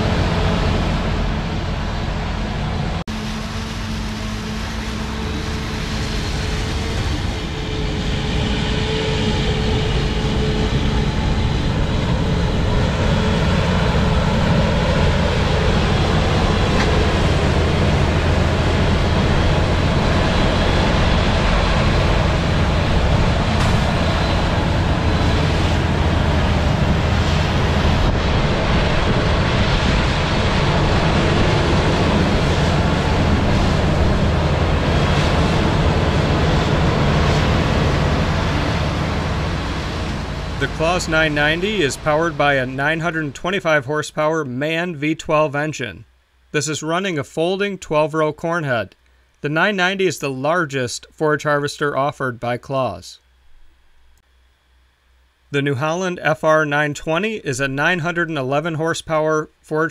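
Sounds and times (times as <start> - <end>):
harvester machinery drone: 0.0 - 59.9.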